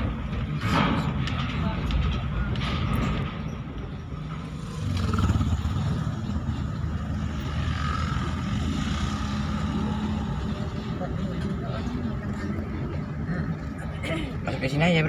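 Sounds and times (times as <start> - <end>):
engine rumbling: 0.0 - 14.5.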